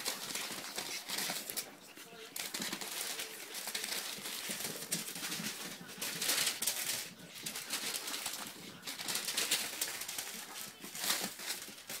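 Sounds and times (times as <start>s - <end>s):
newspaper rustling under paws: 0.0s - 12.0s.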